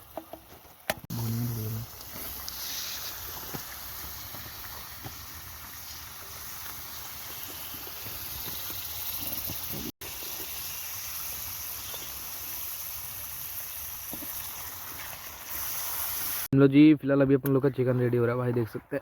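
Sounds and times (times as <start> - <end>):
chicken sizzling in a pan: 1.1 - 16.5.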